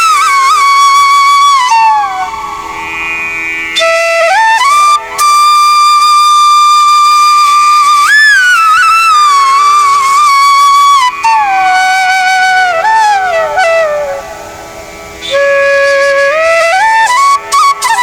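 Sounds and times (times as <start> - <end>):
slow flute melody: 0.0 - 18.0.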